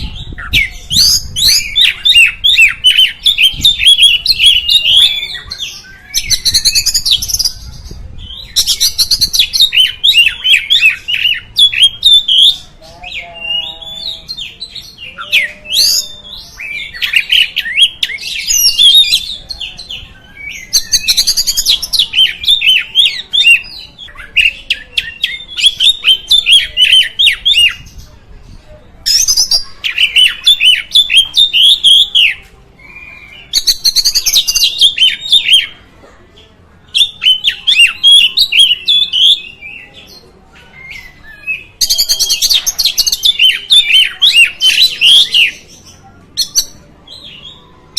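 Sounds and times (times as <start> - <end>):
magpie-robin chattering and whistling: 0.0 - 28.0, 29.0 - 35.8, 36.9 - 47.6.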